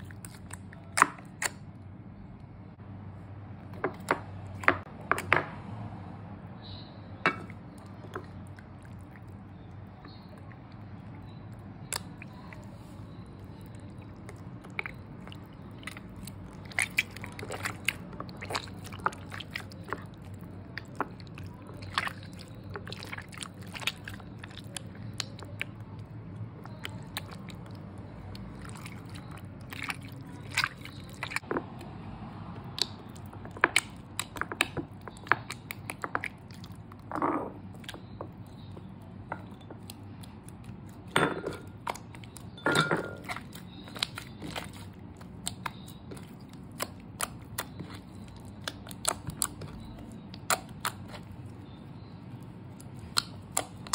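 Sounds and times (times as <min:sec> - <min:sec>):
fingers squeezing wet slime: 0:00.0 - 0:01.8, 0:06.6 - 0:42.6, 0:43.2 - 0:53.9
slime squelches: 0:00.0 - 0:05.3, 0:06.3 - 0:53.9.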